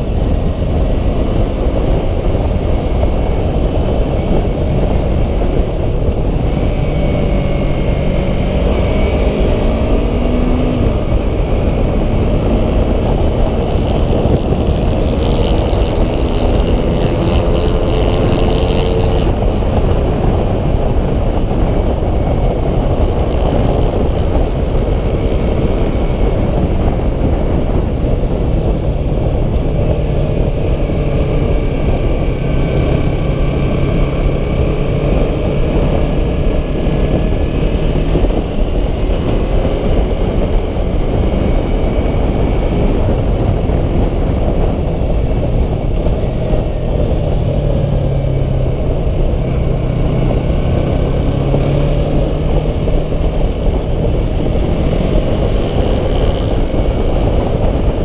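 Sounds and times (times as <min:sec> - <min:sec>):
motorcycle engine cruising: 0:00.0 - 0:58.0
wind rush on microphone: 0:00.0 - 0:58.0.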